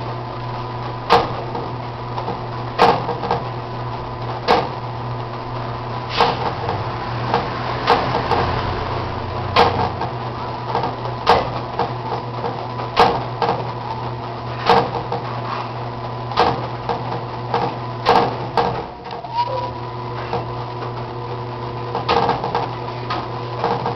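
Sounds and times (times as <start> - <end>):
washing machine motor hum: 0.0 - 23.9.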